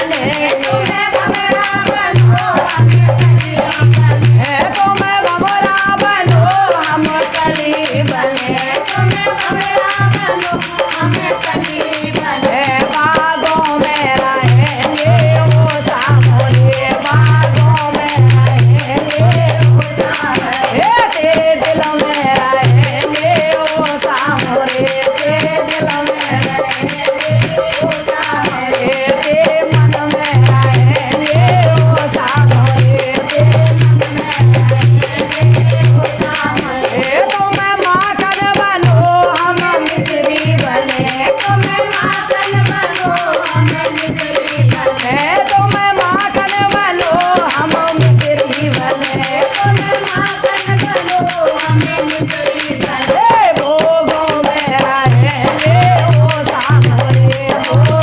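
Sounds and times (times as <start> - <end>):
small hand cymbals jingling: 0.0 - 58.0
women singing devotional song: 0.0 - 58.0.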